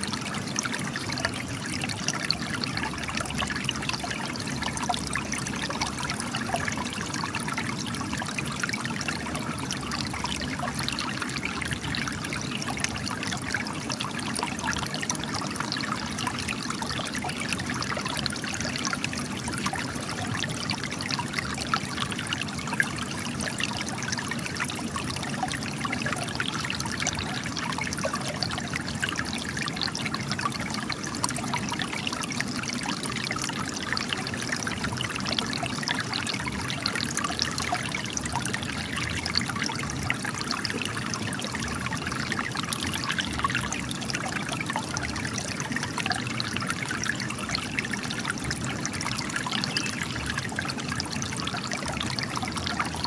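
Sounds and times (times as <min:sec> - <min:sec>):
spring water trickling over rock: 0:00.0 - 0:53.0.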